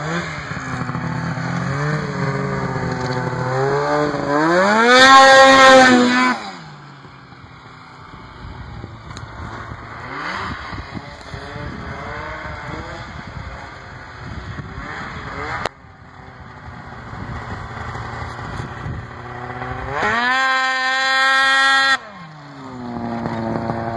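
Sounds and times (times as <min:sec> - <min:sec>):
snowmobile engine revving: 0:00.0 - 0:23.9.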